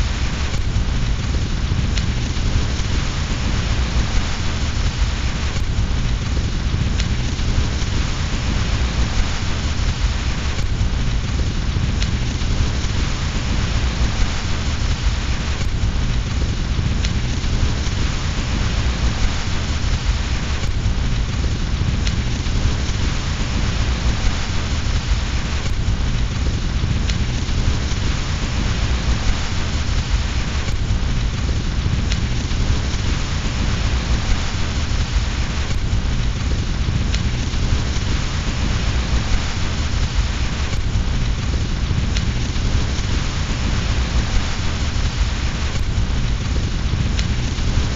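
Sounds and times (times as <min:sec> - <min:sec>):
deep low rumble: 0:00.0 - 0:47.9
dense rain: 0:00.0 - 0:47.9.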